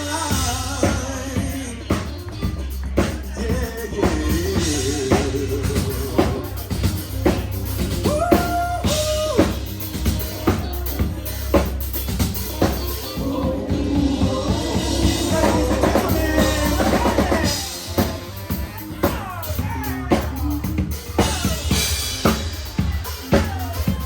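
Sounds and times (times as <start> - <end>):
drum kit playing: 0.0 - 24.0
low bass line: 0.0 - 24.0.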